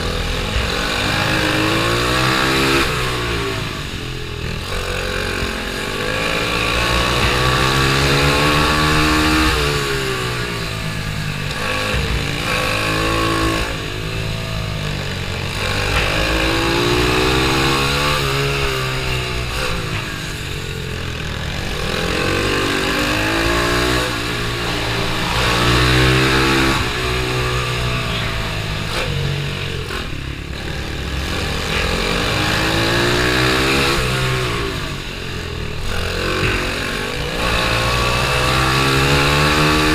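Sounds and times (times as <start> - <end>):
small motorcycle engine racing: 0.0 - 39.9.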